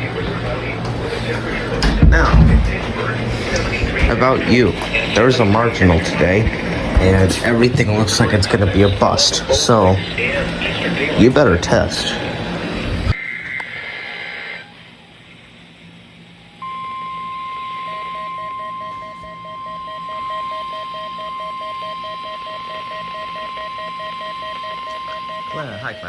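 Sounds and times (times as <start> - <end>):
steady high alarm tone: 0.0 - 13.2, 16.4 - 26.0.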